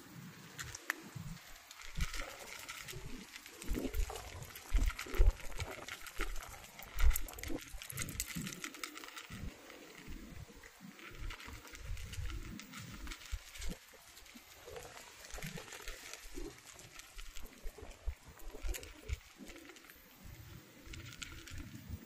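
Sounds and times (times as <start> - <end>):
cats crunching dry kibble: 0.4 - 22.0.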